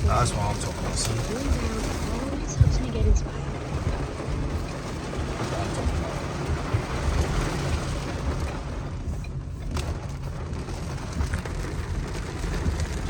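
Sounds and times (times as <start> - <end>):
car rumbling on the move: 0.0 - 13.0.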